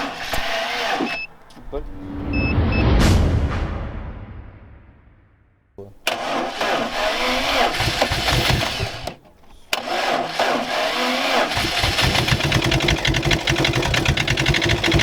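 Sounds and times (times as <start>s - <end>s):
car engine starting and running: 0.0s - 3.0s, 5.8s - 15.0s.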